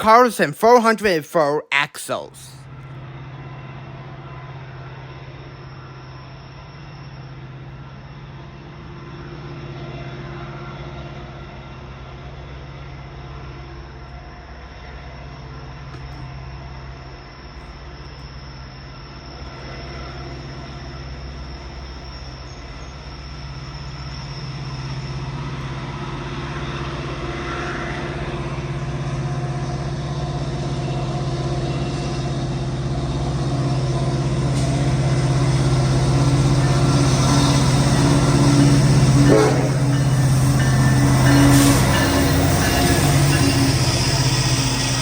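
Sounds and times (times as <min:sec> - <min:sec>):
diesel train engine hum: 0:00.0 - 0:45.0.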